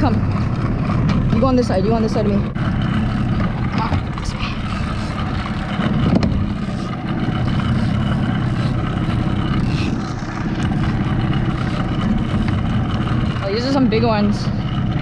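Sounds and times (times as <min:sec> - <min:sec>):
outboard motor running: 0:00.0 - 0:15.0
wind and water rushing: 0:00.0 - 0:15.0.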